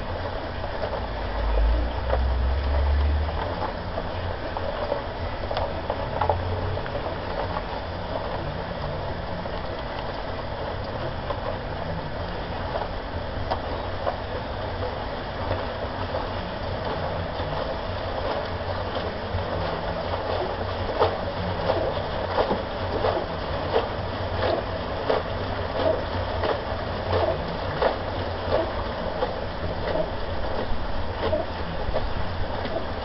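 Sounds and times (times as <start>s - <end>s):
heavy low rumble: 0.0s - 33.0s
concrete mixer churning and clattering: 0.9s - 33.0s.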